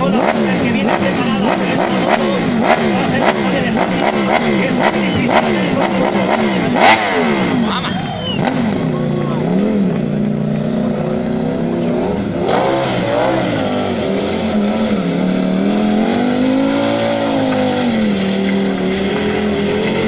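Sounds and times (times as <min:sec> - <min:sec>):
motorcycle engine revving hard: 0:00.0 - 0:20.0.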